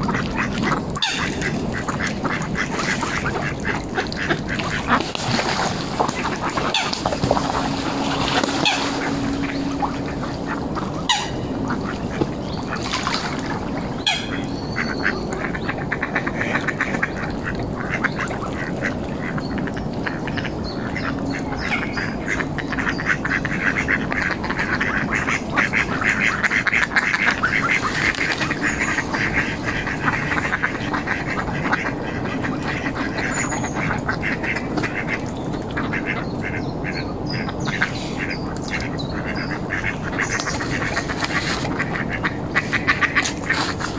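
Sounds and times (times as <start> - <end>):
ducks quacking: 0.0 - 43.9.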